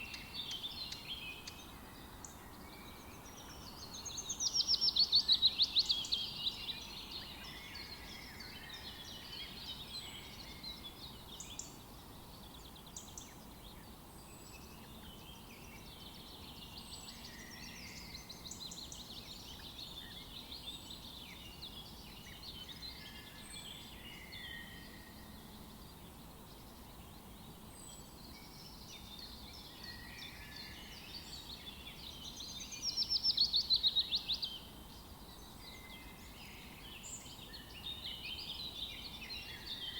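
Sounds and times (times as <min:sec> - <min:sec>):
faint background noise: 0:00.0 - 0:39.9.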